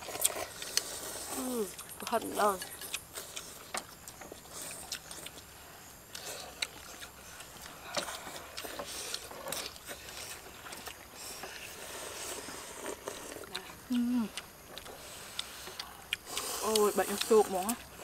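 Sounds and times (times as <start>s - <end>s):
people slurping noodles: 0.0s - 3.8s, 6.2s - 18.0s.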